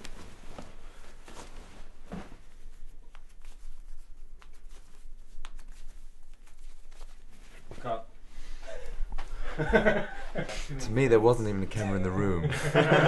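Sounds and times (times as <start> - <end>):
shirt fabric rustling: 0.0 - 10.7.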